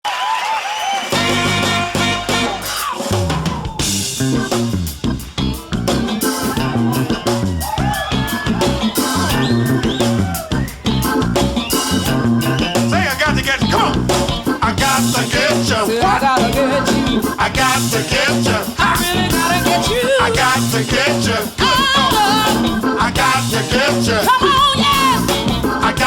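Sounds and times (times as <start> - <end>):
instrumental band with drums and guitar: 1.0 - 26.0.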